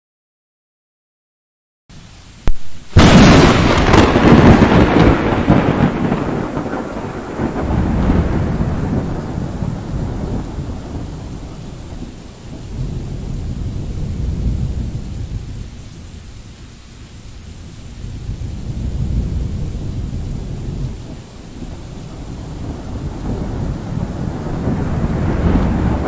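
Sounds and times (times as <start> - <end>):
rain hissing: 1.9 - 26.0
thunder rumbling: 2.4 - 16.4, 17.1 - 26.0.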